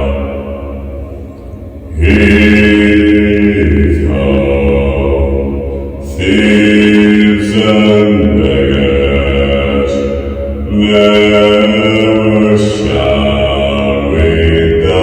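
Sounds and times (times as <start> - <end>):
deep resonant chanting: 0.0 - 15.0
low drone: 0.0 - 15.0.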